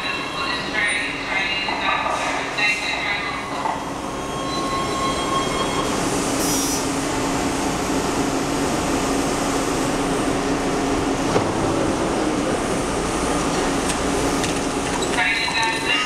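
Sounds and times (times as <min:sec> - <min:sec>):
subway train rumble and hum: 0:00.0 - 0:16.0.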